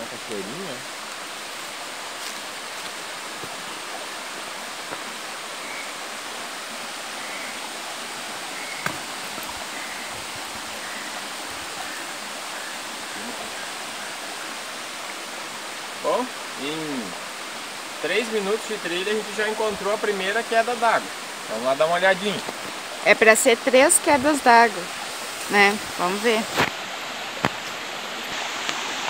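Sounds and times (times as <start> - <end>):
water rushing over rocks: 0.0 - 29.0.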